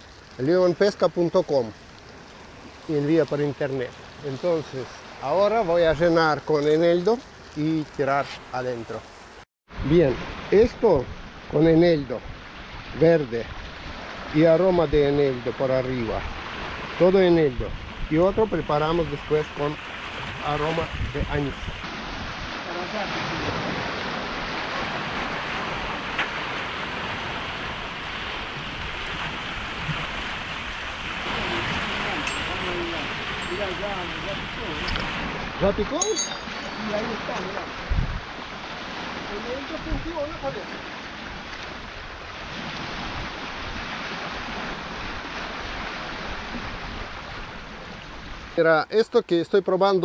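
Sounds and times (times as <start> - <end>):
wind and water rushing: 0.0 - 50.0.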